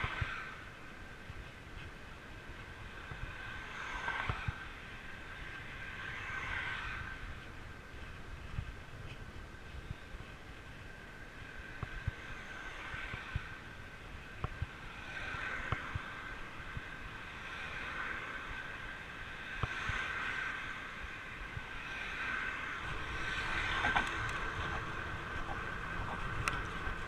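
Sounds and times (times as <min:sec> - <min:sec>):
bike tyres humming on road: 0:00.0 - 0:27.0.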